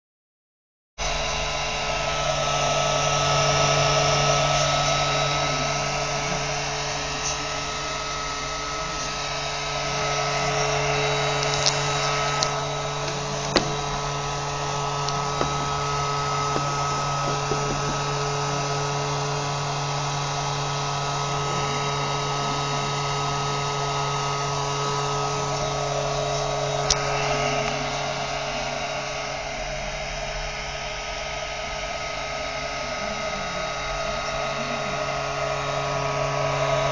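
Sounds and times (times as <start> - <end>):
suction motor humming: 1.0 - 36.9.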